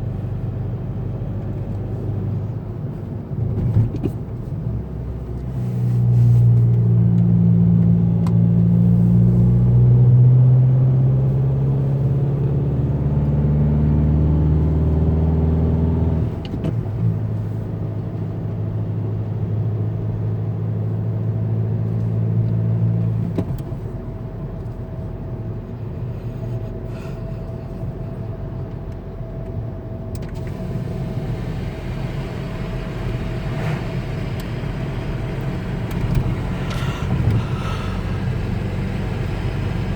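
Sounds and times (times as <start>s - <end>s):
diesel car engine droning: 0.0s - 39.9s.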